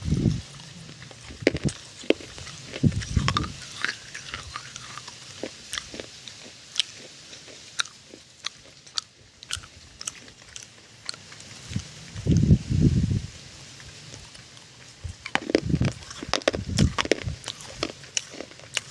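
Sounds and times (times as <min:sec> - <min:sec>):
crunchy chewing: 0:00.0 - 0:12.7, 0:13.4 - 0:18.9.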